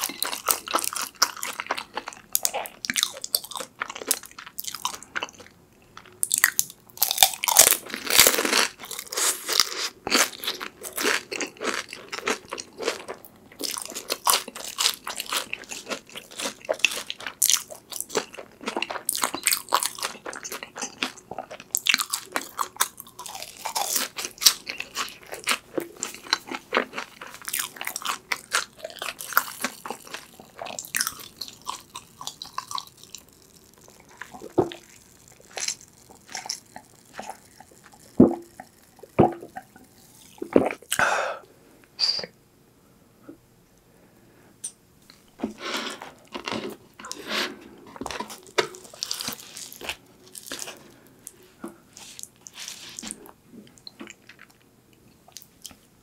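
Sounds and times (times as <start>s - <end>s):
crunching and chewing crispy food: 0.0s - 41.0s, 45.1s - 55.9s.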